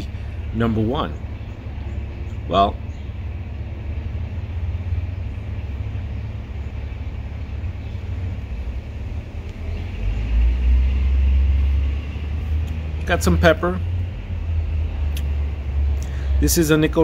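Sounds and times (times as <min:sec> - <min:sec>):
outdoor background rumble: 0:00.0 - 0:17.0.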